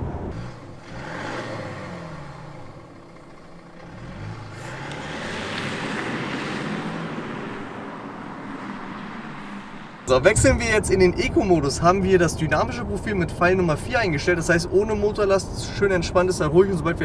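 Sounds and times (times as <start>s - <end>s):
car engine accelerating: 0.0s - 13.8s.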